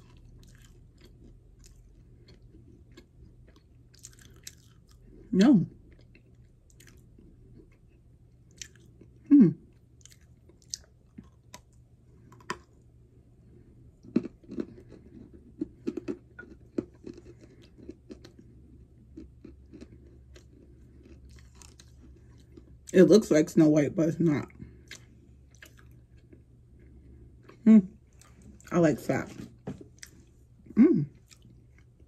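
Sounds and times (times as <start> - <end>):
person chewing and crunching: 0.0 - 12.8, 13.4 - 23.0, 24.4 - 32.0.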